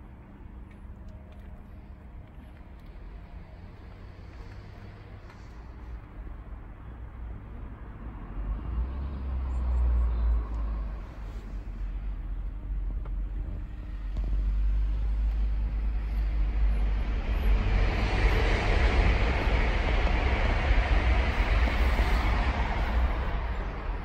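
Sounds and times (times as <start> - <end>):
low traffic rumble: 0.0 - 24.0
hiss of passing vehicles: 3.0 - 24.0.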